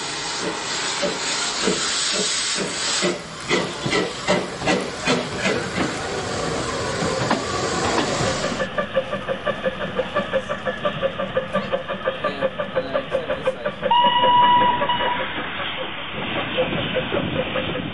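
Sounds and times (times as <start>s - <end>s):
steam hissing: 0.0s - 17.9s
steam locomotive chuffing: 0.0s - 17.9s.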